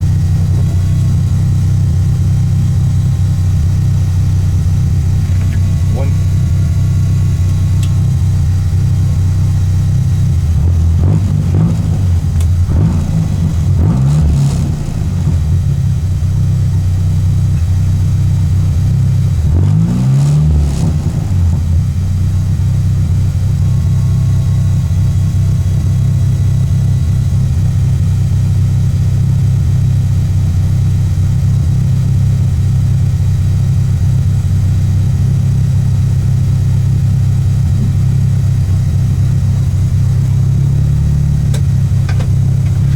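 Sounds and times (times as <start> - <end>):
car engine running hard: 0.0 - 42.9.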